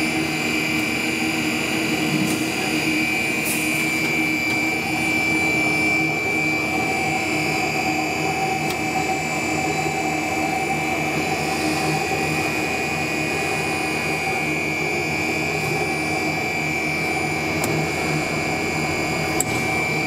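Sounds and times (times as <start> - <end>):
machine hum with high whine: 0.0 - 20.0.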